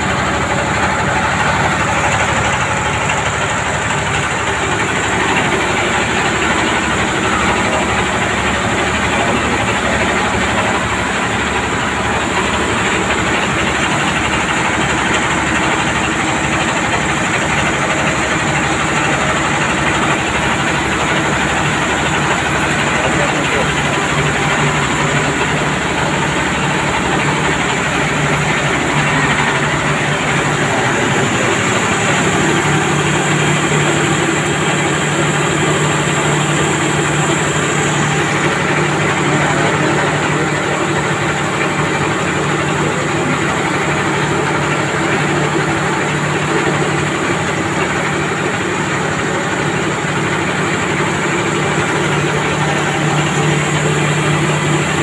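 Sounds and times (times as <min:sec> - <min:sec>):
milling machine droning: 0:00.0 - 0:55.0.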